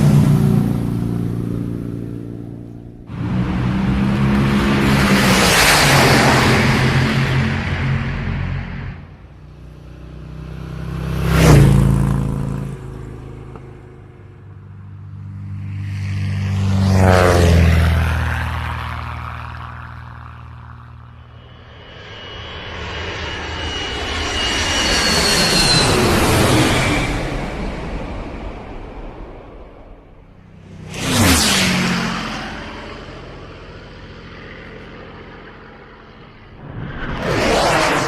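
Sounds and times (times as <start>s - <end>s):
vehicles passing by: 0.0s - 22.3s, 25.6s - 38.0s.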